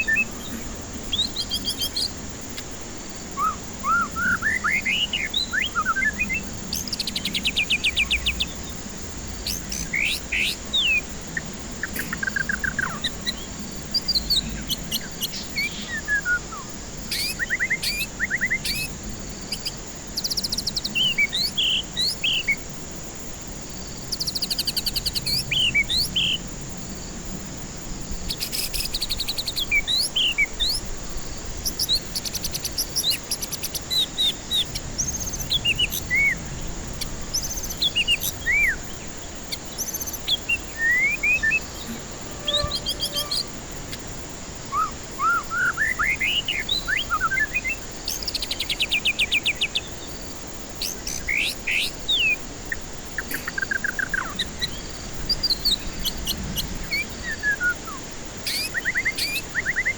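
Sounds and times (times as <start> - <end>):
bird singing whistled notes: 0.0 - 22.6, 24.0 - 26.5, 28.2 - 31.0, 31.6 - 59.9
steady high hiss: 0.0 - 59.9.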